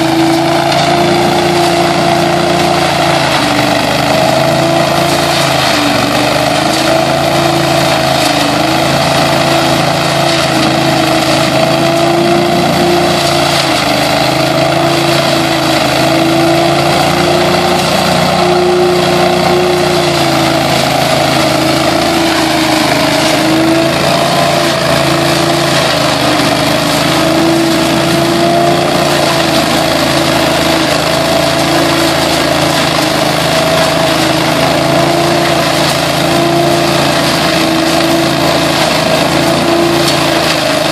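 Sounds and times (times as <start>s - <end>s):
debris loader engine droning: 0.0s - 40.9s.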